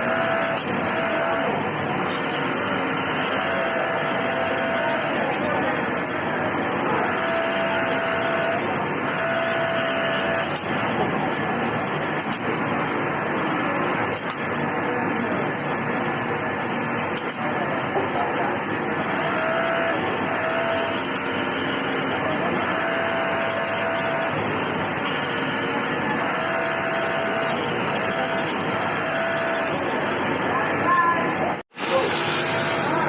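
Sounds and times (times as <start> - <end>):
sewing machine motor whine: 0.0 - 15.0, 18.8 - 33.0.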